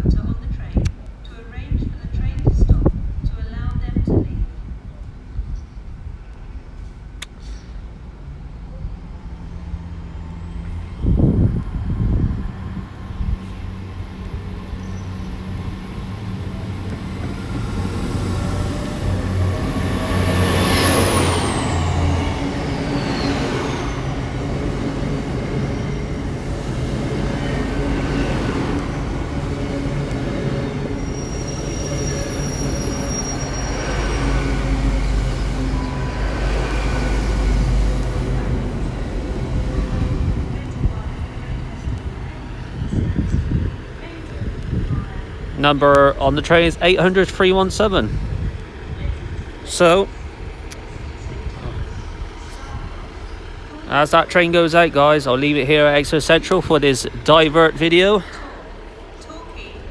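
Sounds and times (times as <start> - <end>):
train diesel engine drone: 0.1 - 59.9.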